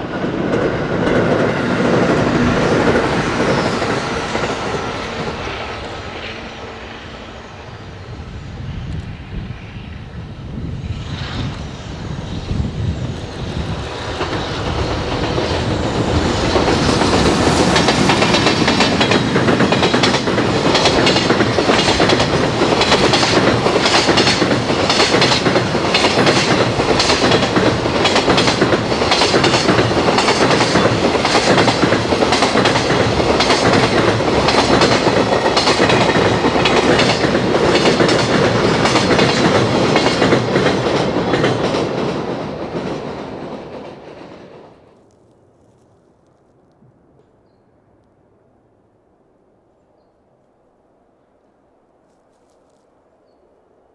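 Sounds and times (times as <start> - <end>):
electric locomotive passing: 0.0 - 45.6.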